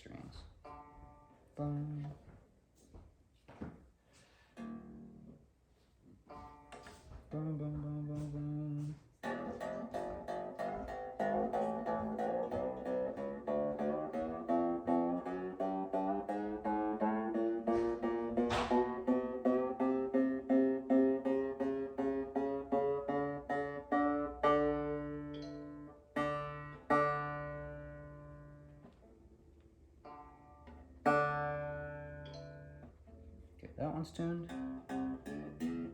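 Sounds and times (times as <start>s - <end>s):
banjo string plucked: 0.0s - 2.2s, 4.6s - 35.9s.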